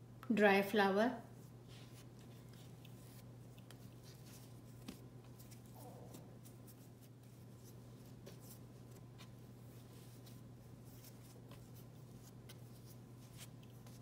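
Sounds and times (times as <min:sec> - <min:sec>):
hands kneading dough: 0:01.3 - 0:14.0.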